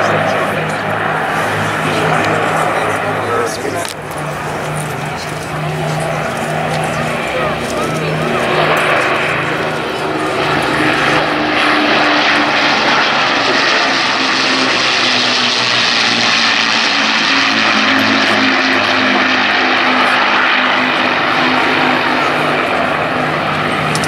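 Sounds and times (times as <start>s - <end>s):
propeller aircraft engines: 0.0s - 24.0s.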